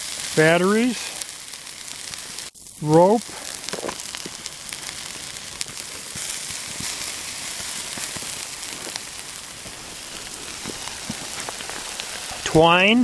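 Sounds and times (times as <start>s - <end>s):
small crackles and pops: 0.0s - 13.0s
smouldering hiss: 0.0s - 13.0s.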